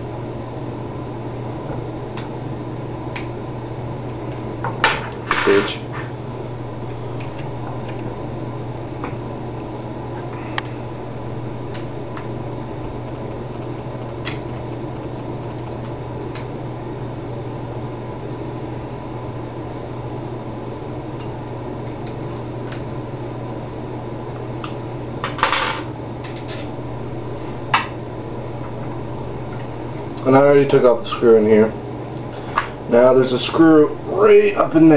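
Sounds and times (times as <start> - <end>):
steady hum: 0.0 - 34.9.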